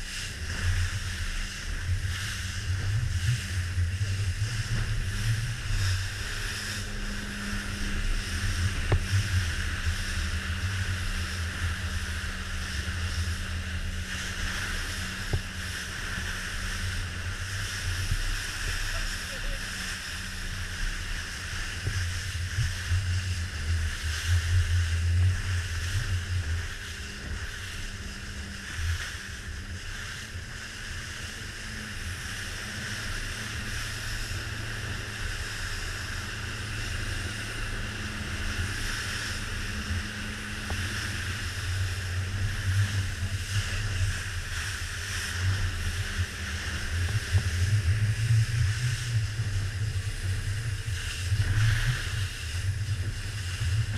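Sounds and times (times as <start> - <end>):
outboard motor running: 0.0 - 53.9
water rushing against hull: 0.0 - 53.9
wind on microphone: 0.0 - 53.9.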